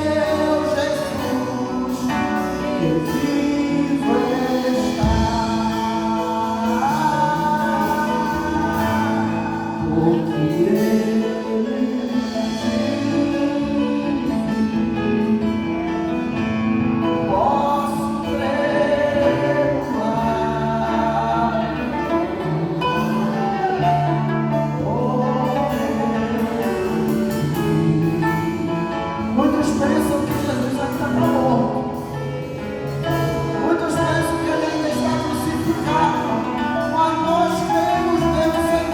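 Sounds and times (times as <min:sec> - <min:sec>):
gospel band playing: 0:00.0 - 0:38.9
person singing: 0:00.0 - 0:38.9.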